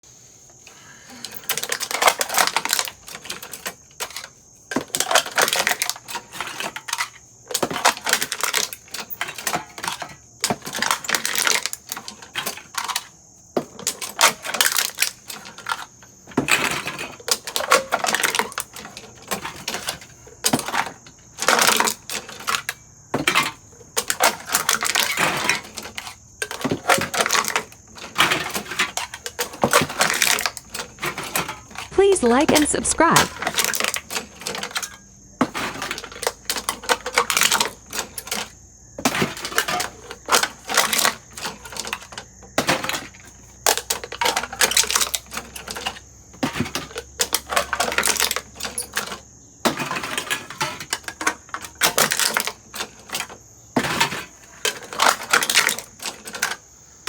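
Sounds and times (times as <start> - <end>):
metal cans being crushed: 1.1 - 56.6.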